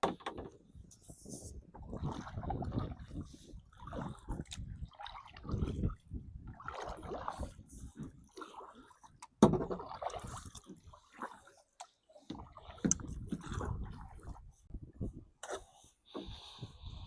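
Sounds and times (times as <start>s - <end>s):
water splashing against a kayak: 0.0s - 17.0s.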